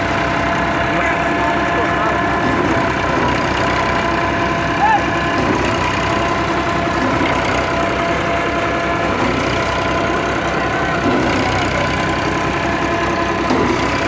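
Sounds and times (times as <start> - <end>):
thresher humming: 0.0 - 14.0
tractor diesel engine running: 0.0 - 14.0.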